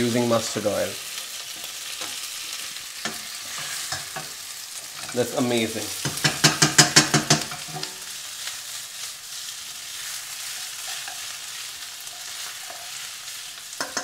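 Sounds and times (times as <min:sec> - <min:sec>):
potatoes sizzling in a frying pan: 0:00.0 - 0:14.0.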